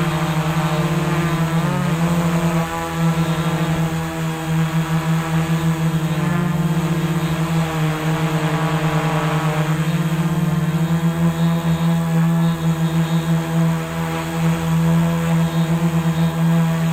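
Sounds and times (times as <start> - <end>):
drone propellers buzzing: 0.0 - 16.9.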